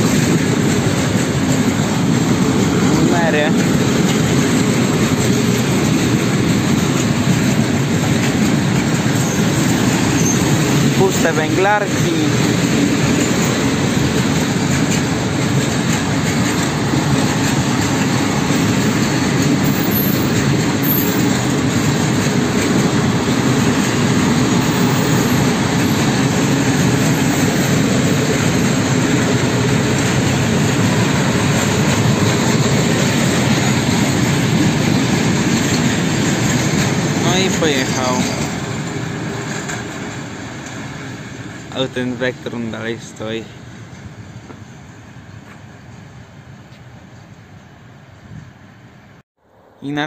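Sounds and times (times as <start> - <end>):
train wheels on track: 0.0 - 50.0.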